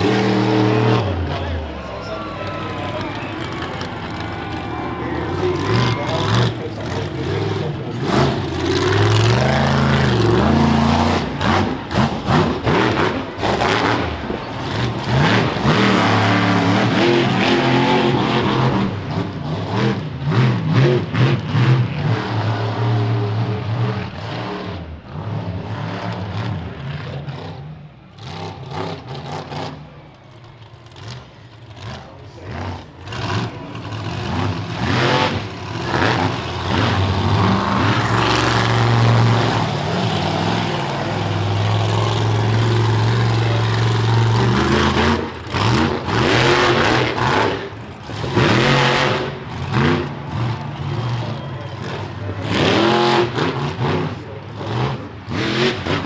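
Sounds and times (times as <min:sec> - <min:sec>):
truck engine revving hard: 0:00.0 - 0:30.1, 0:30.8 - 0:56.0.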